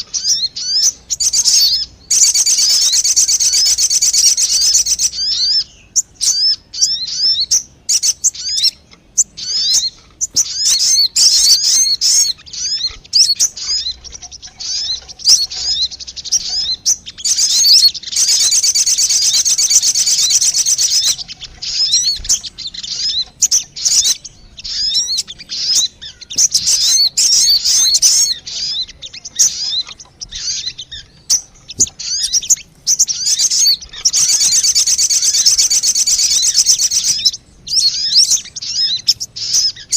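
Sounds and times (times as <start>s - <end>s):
birds twittering chirps: 0.0s - 39.9s.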